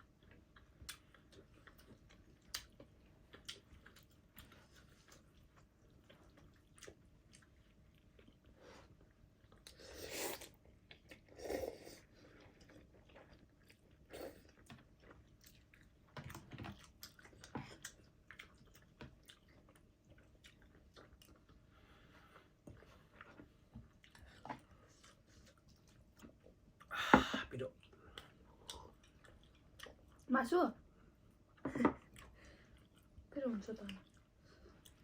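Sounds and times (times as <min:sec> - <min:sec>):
chewing noodles: 0:00.0 - 0:26.9, 0:27.7 - 0:30.3, 0:31.5 - 0:35.0.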